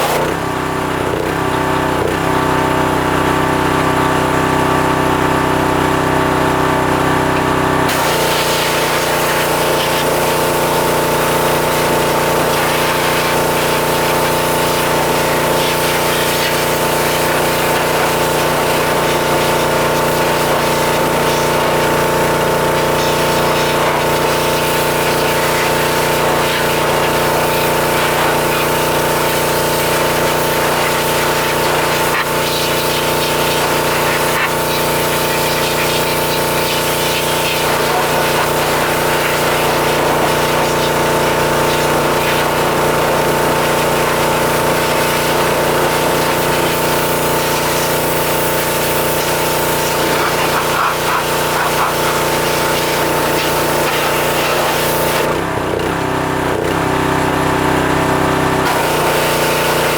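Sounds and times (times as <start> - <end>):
pressure washer motor and pump: 0.0 - 59.9
high-pressure water spray hiss: 7.9 - 55.4, 58.6 - 59.9.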